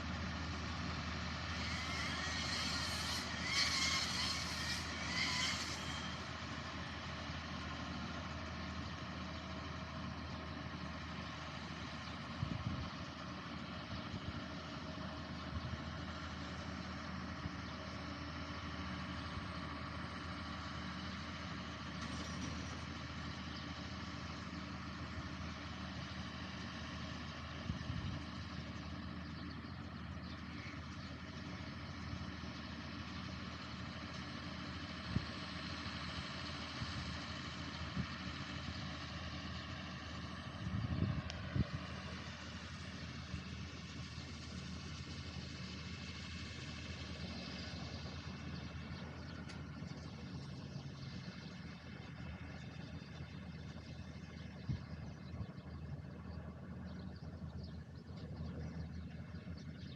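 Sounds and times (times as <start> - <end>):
farm machine engine running: 0.0 - 59.9.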